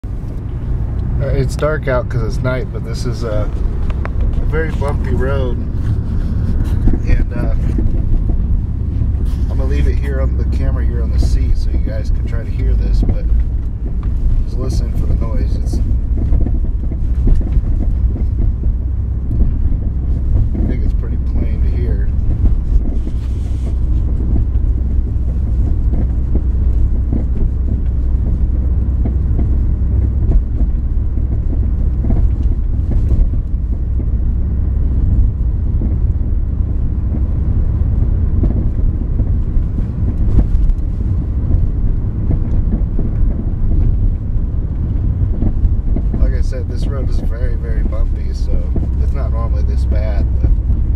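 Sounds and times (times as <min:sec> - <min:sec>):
car cabin rumble on bumpy road: 0:00.0 - 0:50.9
suspension knocks: 0:00.0 - 0:50.9.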